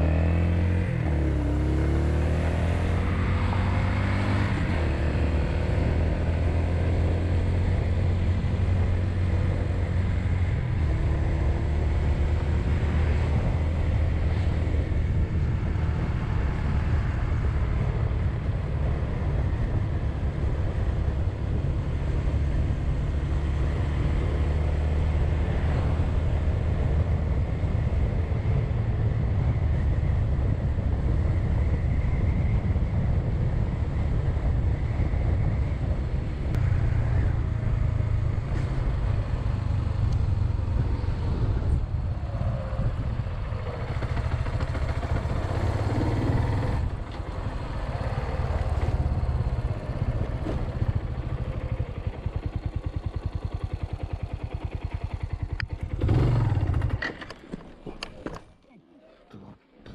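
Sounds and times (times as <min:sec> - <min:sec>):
motorcycle engine running: 0:00.0 - 0:57.7.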